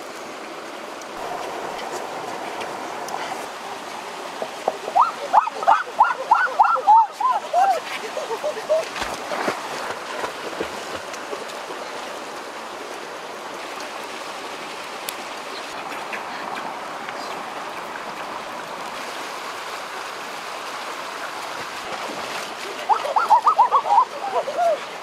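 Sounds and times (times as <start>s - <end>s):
stream running over stones: 0.0s - 25.0s.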